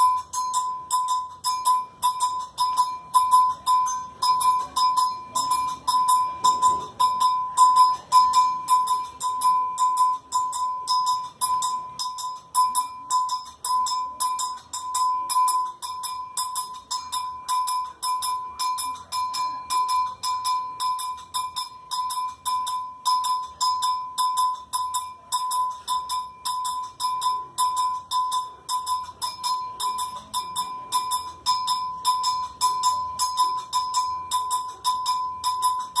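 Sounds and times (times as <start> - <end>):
metal bell struck repeatedly: 0.0 - 36.0.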